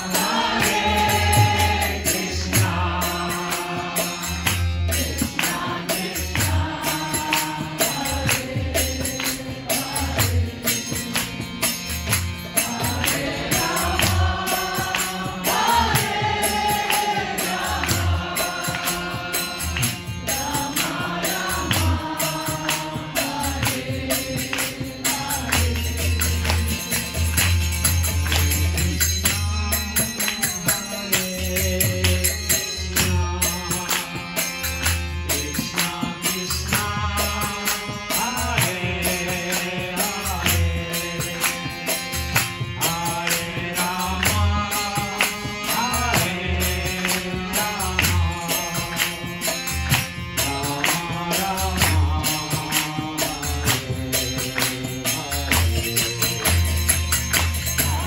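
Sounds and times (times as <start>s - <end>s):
devotional chanting: 0.0s - 58.0s
harmonium chords: 0.0s - 58.0s
jingling percussion: 0.0s - 58.0s.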